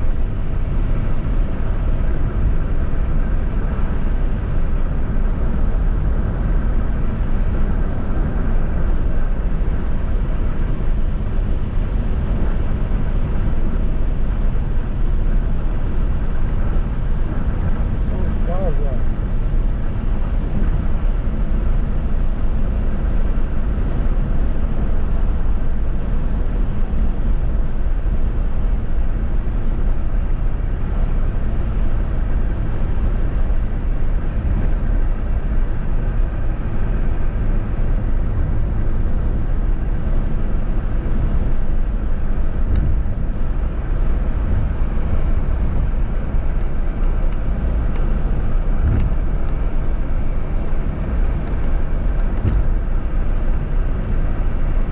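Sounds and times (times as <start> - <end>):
vehicle driving on highway: 0.0 - 54.9.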